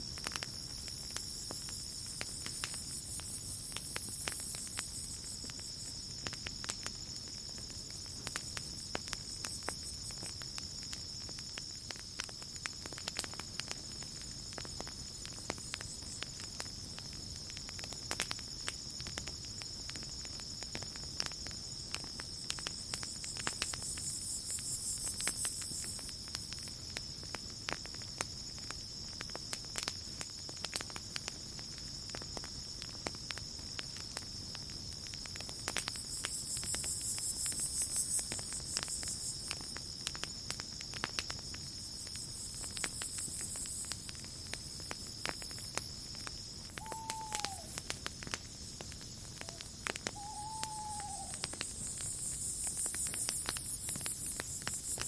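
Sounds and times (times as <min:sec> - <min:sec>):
campfire crackling and popping: 0:00.0 - 0:55.0
insect trill: 0:00.0 - 0:55.0
night insects chirping: 0:00.0 - 0:55.0.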